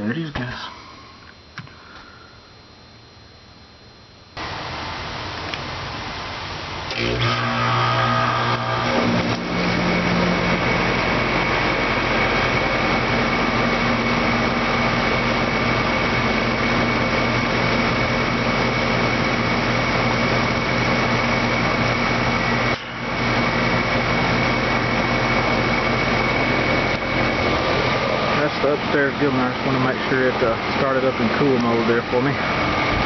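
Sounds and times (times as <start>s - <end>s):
air conditioner humming: 0.0s - 33.0s
faint high whine: 0.0s - 33.0s.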